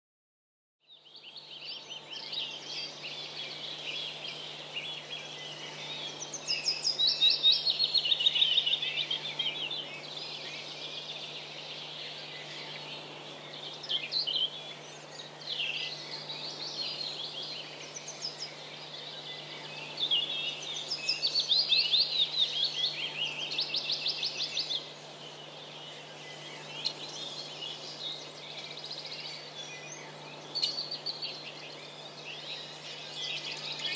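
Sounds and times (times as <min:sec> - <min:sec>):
songbirds singing: 0:00.8 - 0:33.9.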